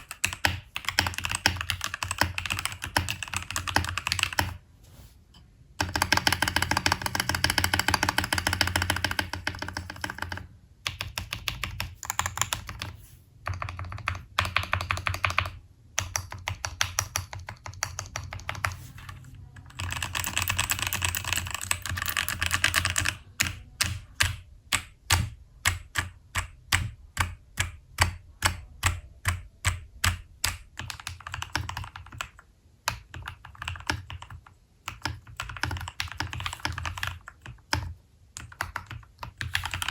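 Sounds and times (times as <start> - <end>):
mechanical keyboard typing: 0.0 - 4.6, 5.8 - 39.9.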